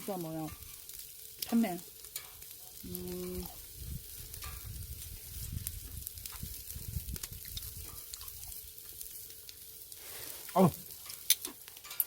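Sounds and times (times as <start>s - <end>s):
fat crackling on coals: 0.0s - 12.0s
meat sizzling on a grill: 0.0s - 12.0s.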